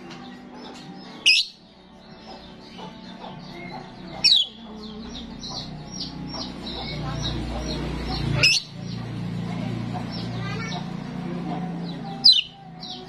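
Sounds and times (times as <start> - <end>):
birds chirping and chattering: 0.0 - 13.0.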